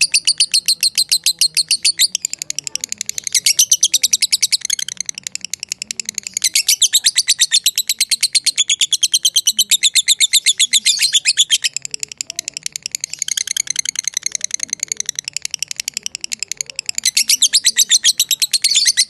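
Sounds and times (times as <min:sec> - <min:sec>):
lovebird chattering song: 0:00.0 - 0:19.0.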